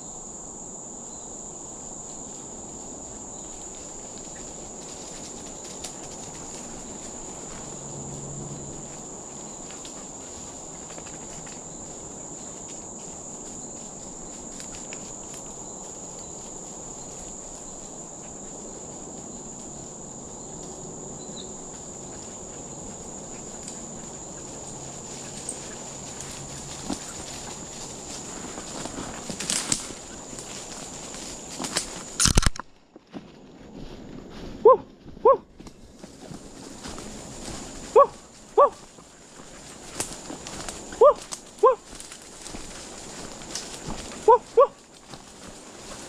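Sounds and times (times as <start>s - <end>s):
insects droning: 0.0s - 46.0s
footsteps in dry leaves: 2.4s - 20.2s, 21.6s - 46.0s.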